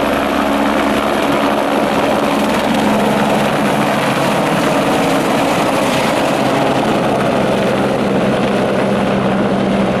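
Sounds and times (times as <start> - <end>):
helicopter running: 0.0 - 10.0.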